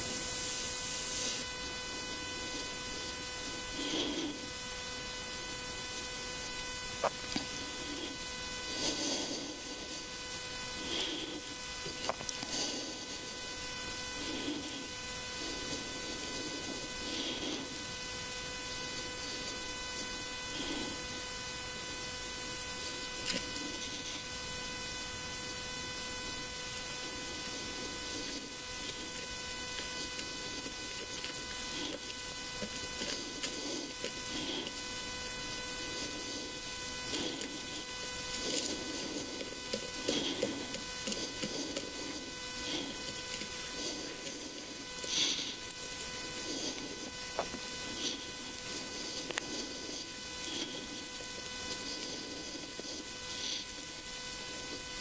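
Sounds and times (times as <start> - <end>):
electrical hum with high whine: 0.0 - 55.0.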